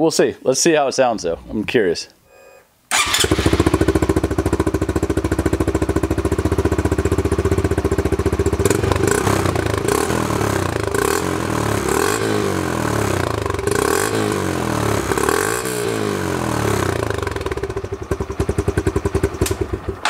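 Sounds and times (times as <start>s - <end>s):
motorcycle engine idling: 2.9s - 20.0s.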